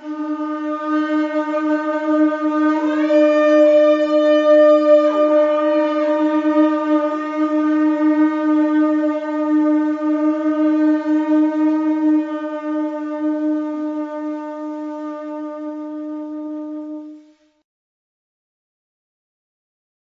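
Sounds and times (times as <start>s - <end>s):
long held musical note: 0.0s - 17.5s.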